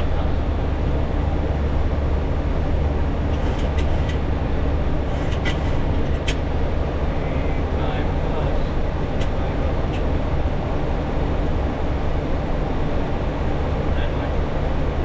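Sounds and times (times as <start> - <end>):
aircraft cockpit rumble: 0.0 - 15.0.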